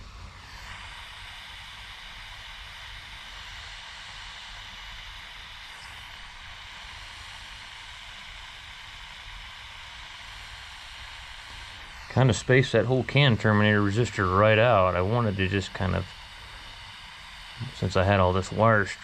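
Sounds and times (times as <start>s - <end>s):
butane heat tool hissing: 0.0s - 19.0s.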